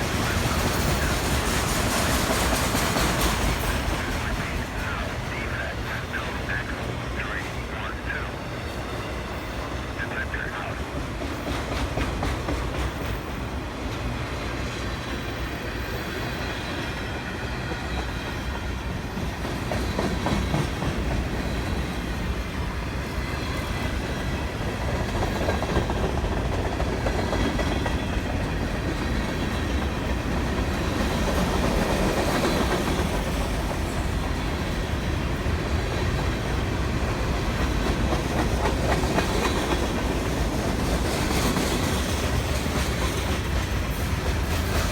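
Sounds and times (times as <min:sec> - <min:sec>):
train rumble and clatter: 0:00.0 - 0:44.9.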